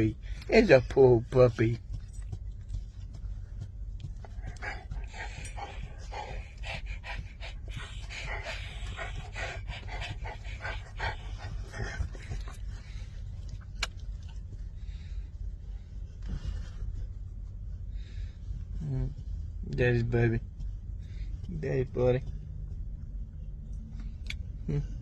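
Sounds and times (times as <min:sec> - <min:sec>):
dog panting: 0:00.0 - 0:23.1.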